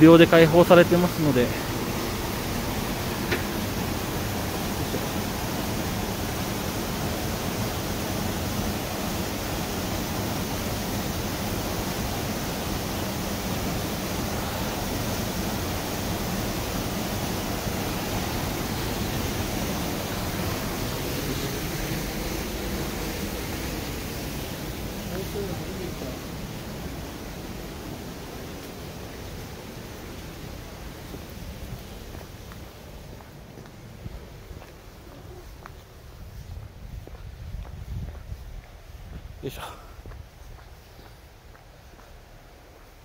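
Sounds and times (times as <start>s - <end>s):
waterfall rushing: 0.0s - 35.7s.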